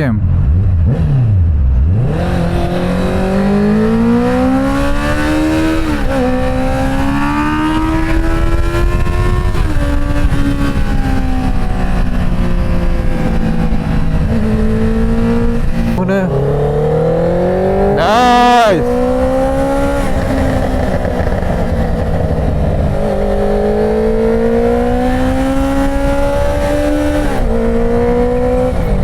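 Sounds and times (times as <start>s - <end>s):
car engine accelerating: 0.4s - 29.0s.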